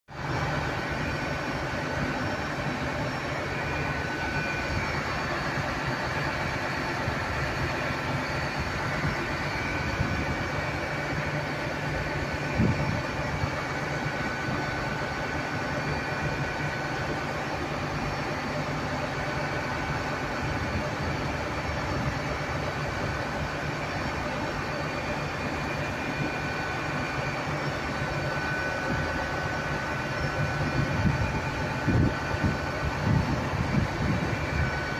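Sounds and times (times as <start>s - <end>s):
train equipment humming with whine: 0.1s - 34.9s.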